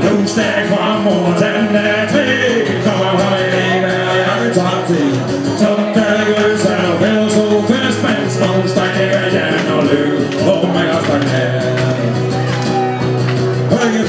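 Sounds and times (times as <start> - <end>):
man singing lead vocals: 0.0 - 12.8, 13.6 - 14.0
acoustic guitar: 0.0 - 14.0.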